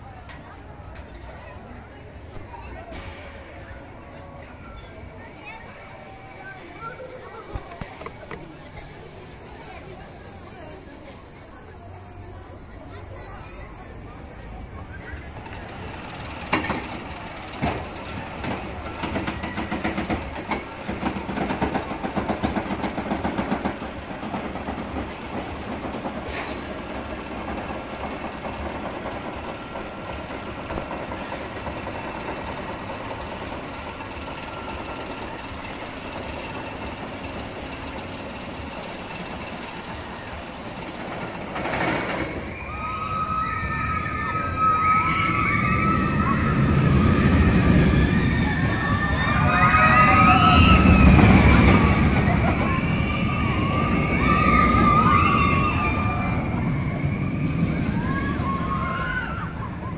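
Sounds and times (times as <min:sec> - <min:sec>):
ride cars clattering on rail track: 0:00.0 - 0:59.9.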